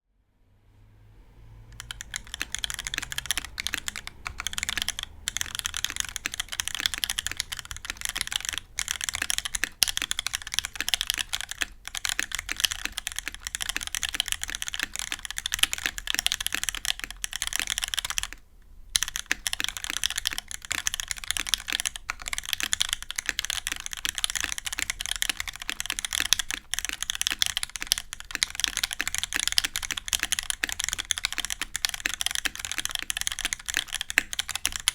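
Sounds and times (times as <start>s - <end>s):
fast mechanical keyboard typing: 1.7s - 34.9s.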